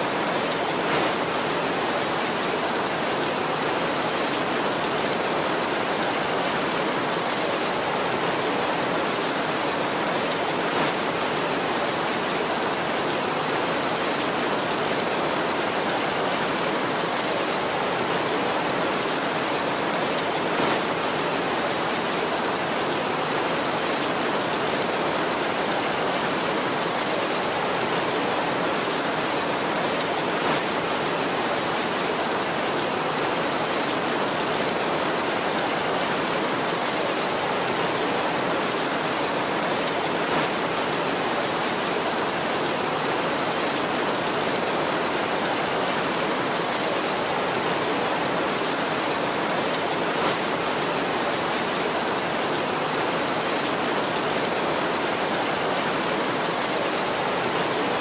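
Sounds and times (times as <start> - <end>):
steady heavy rain: 0.0 - 58.0
rain spatters: 0.1 - 58.0.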